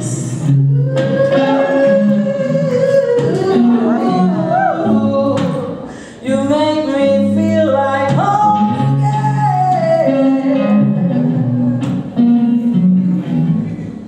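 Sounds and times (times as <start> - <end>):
electric guitar: 0.0 - 14.0.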